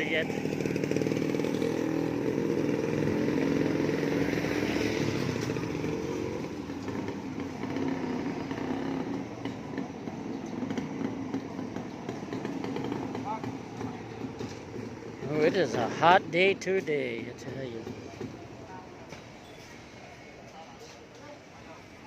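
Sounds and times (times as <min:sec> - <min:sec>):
vehicle engine passing: 0:00.0 - 0:18.6
street traffic: 0:00.0 - 0:22.0.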